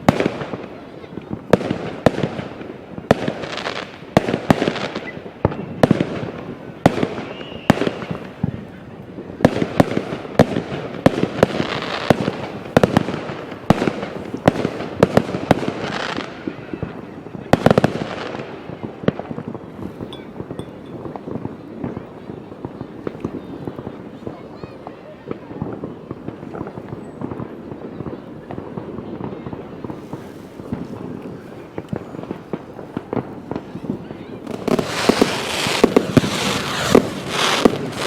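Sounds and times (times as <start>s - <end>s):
fireworks bangs with echo: 0.0s - 38.0s
fireworks crackling: 0.0s - 38.0s.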